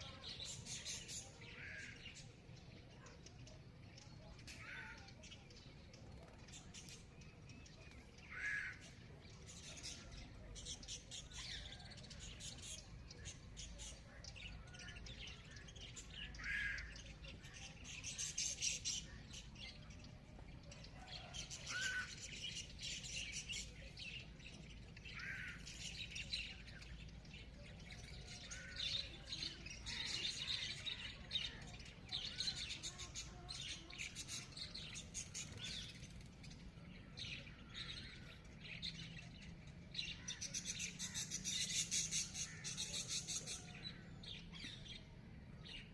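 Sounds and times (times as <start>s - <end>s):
wild birds chirping: 0.0s - 45.9s.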